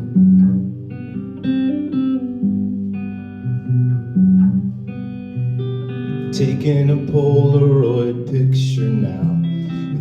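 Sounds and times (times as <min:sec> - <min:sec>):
guitar plucked notes: 0:00.0 - 0:10.0.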